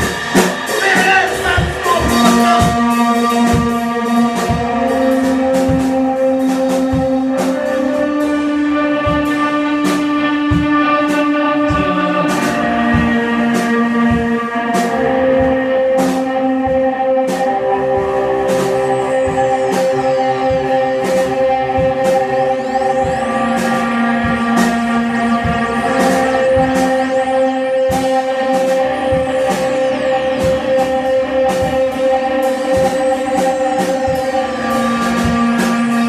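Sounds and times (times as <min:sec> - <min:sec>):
drum kit with cymbals: 0:00.0 - 0:36.0
electric guitar sustained notes: 0:00.0 - 0:36.0.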